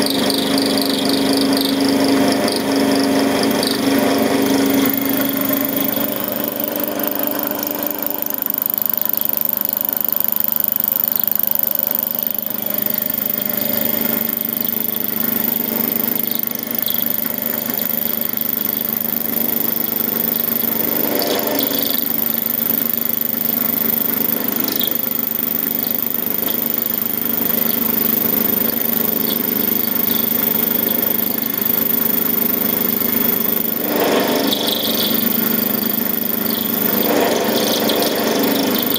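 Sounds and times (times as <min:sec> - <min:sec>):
end mill cutting metal: 0:00.0 - 0:38.9
lathe running: 0:00.0 - 0:38.9.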